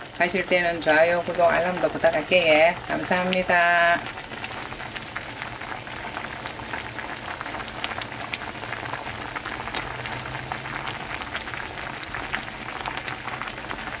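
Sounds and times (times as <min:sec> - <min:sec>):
stew bubbling at a rolling boil: 0:00.0 - 0:14.0.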